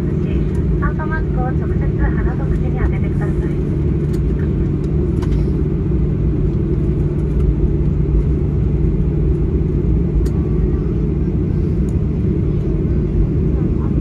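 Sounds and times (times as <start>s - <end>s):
airplane cabin rumble: 0.0s - 14.0s
low hum: 0.0s - 14.0s.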